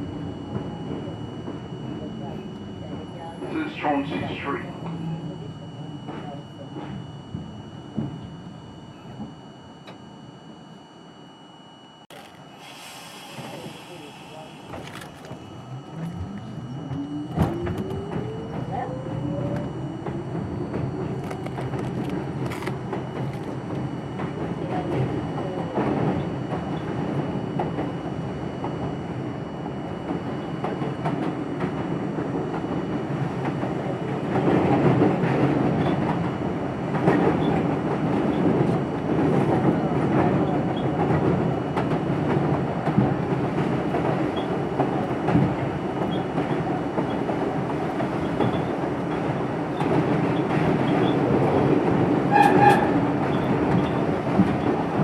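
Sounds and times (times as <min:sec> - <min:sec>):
subway train rumbling: 0:00.0 - 0:11.0, 0:12.1 - 0:55.0.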